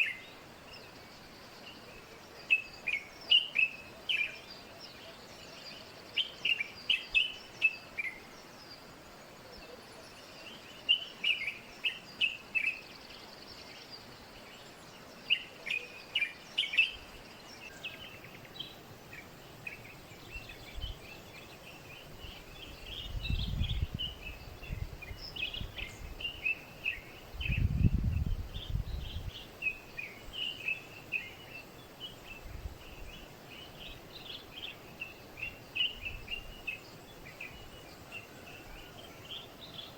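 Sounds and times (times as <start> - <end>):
outdoor background hiss: 0.0 - 39.9
small birds chirping: 0.0 - 39.9.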